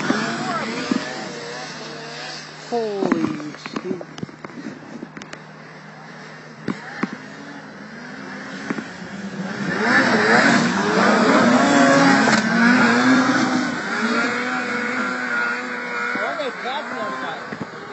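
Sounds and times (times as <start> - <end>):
snowmobile engine passing: 0.0 - 5.0, 6.0 - 17.9.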